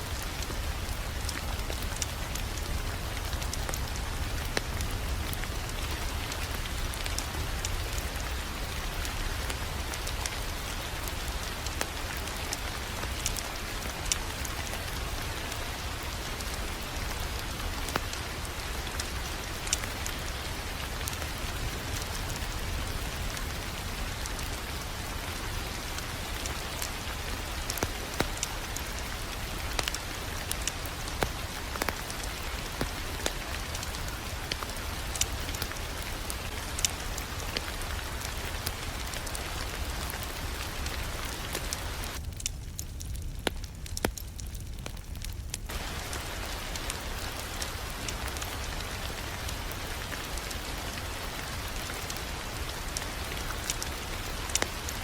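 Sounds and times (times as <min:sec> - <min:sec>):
fire low rumble: 0:00.0 - 0:55.0
wood fire crackles and pops: 0:00.0 - 0:55.0.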